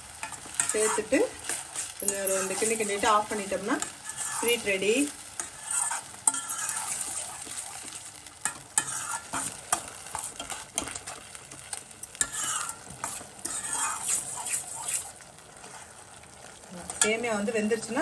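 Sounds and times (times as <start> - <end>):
food sizzling: 0.0 - 18.0
metal spoon scraping a pan: 0.2 - 16.0.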